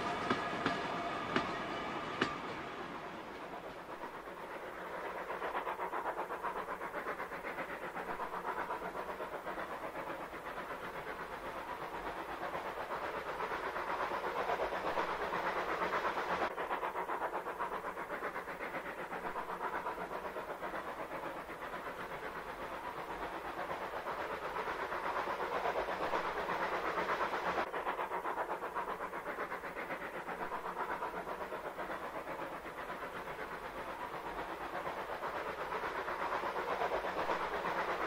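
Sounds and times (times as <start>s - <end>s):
wheels clicking on rails: 0.0s - 38.0s.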